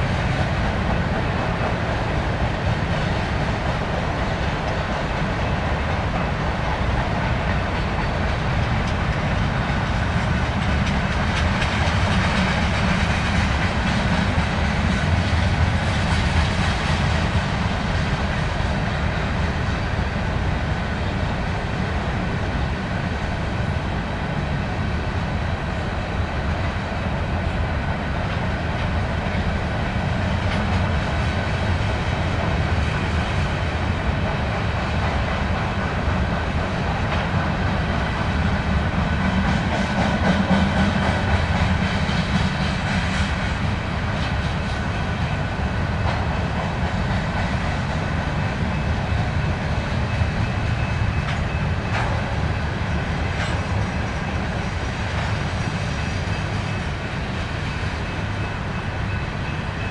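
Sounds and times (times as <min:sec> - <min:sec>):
freight train rumbling past: 0:00.0 - 0:59.9
railcars clickety-clack: 0:00.0 - 0:59.9.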